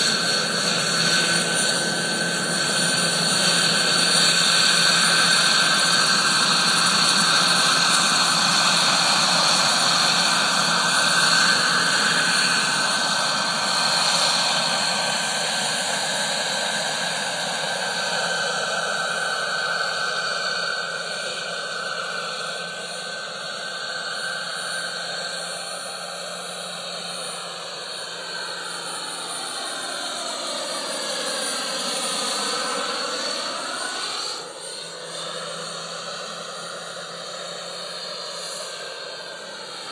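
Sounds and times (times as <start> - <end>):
gas turbine high whine: 0.0 - 39.9
helicopter rotor: 0.0 - 39.9.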